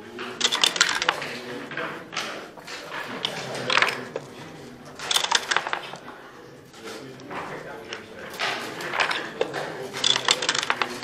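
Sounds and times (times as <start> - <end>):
dice and checkers clattering: 0.2 - 6.1, 6.8 - 11.0.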